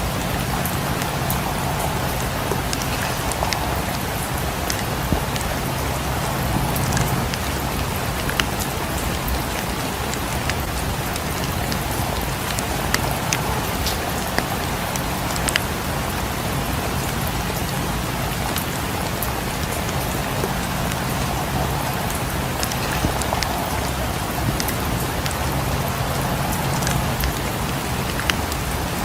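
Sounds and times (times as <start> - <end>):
fireplace crackling and popping: 0.0 - 29.0
steady rain falling: 0.0 - 29.0.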